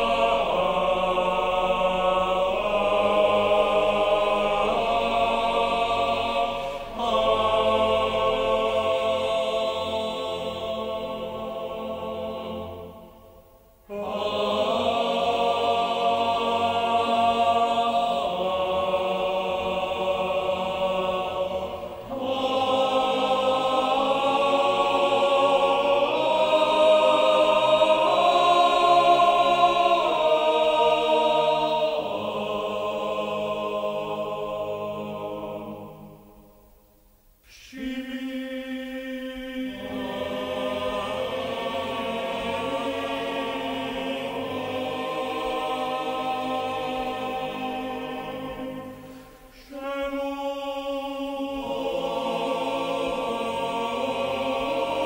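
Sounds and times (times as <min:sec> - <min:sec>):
choir singing held chords: 0:00.0 - 0:55.0.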